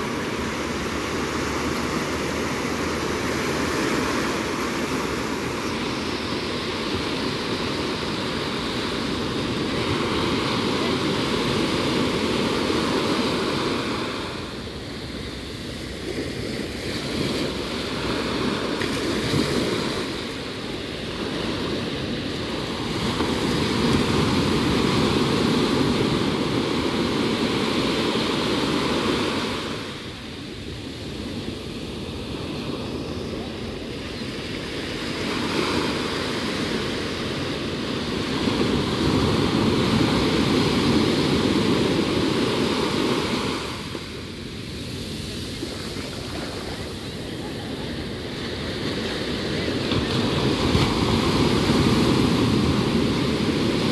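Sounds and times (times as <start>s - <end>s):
sea waves washing up beach: 0.0s - 53.9s.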